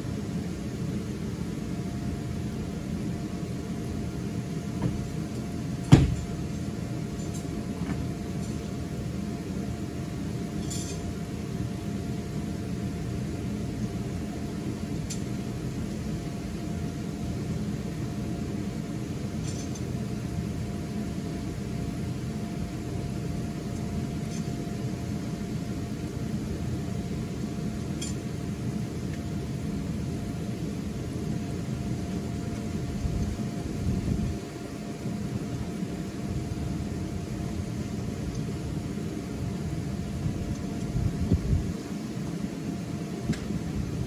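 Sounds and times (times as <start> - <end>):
faint steady whine: 0.0 - 44.0.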